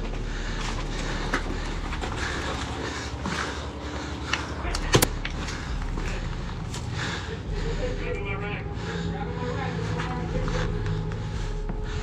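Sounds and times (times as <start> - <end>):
rubble shifting: 0.0 - 12.0.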